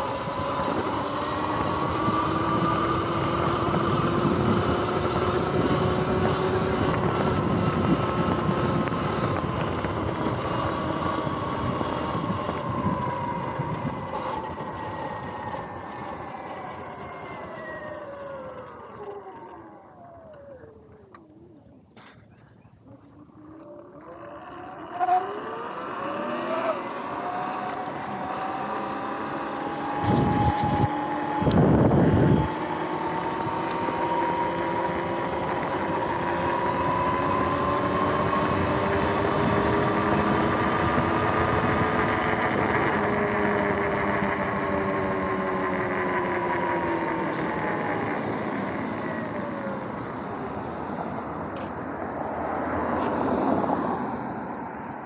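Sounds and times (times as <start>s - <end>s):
electric dirt bike motor whining: 0.0s - 54.8s.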